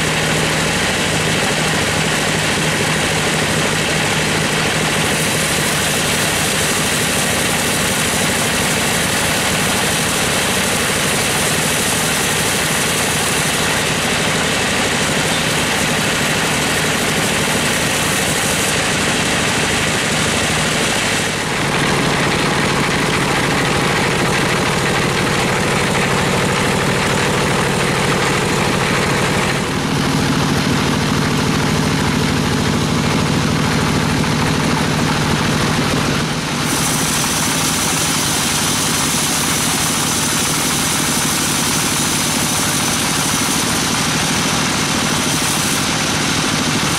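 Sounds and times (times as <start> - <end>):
band saw cutting timber: 0.0 - 46.9.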